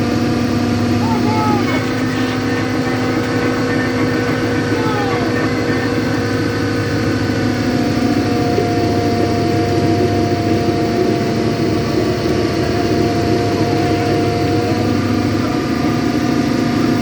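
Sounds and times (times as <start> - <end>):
boat engine running: 0.0 - 17.0
held tones: 0.0 - 17.0.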